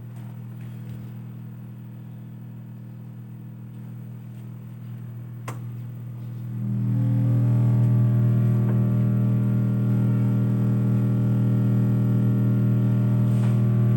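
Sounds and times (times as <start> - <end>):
low-pitched hum: 0.1 - 13.9.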